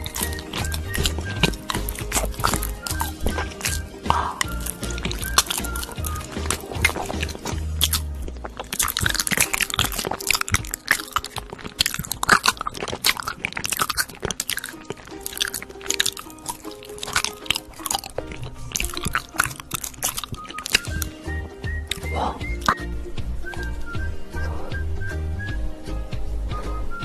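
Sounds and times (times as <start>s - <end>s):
crunchy chewing of crisp food: 0.0s - 24.9s
soft background music: 0.0s - 27.0s.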